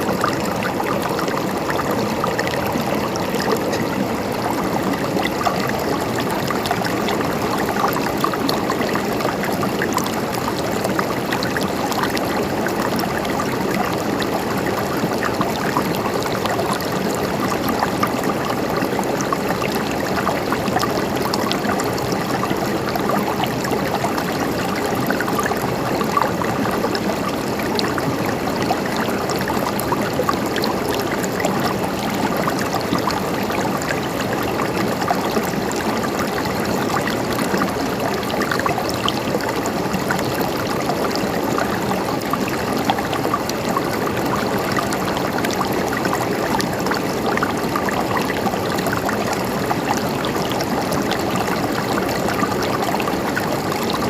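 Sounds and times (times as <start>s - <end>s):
river water flowing and gurgling: 0.0s - 54.0s.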